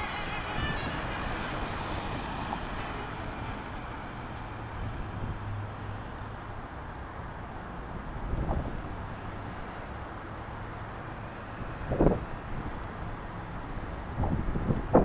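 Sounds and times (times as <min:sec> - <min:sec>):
passing cars rumble: 0:00.0 - 0:15.0.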